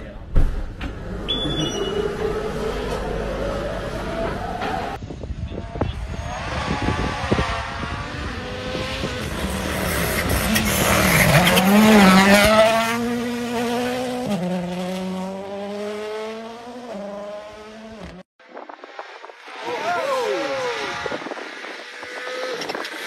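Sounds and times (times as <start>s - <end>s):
rally car engine at full throttle: 0.7s - 23.0s.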